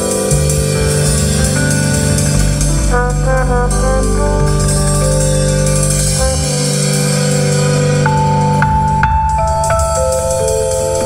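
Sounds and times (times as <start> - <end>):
deep bass notes: 0.0 - 11.0
jazz with brass through car stereo: 0.0 - 11.0.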